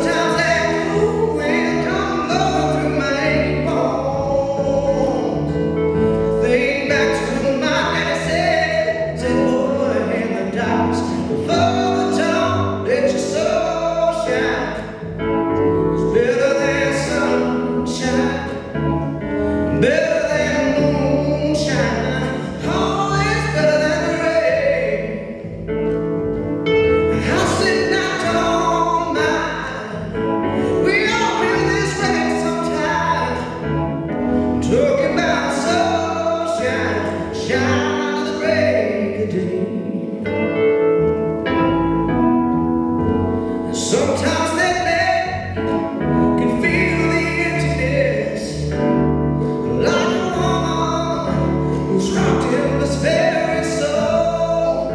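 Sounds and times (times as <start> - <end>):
man singing: 0.0 - 26.2, 27.0 - 40.8, 43.4 - 54.9
upright double bass: 0.0 - 54.9.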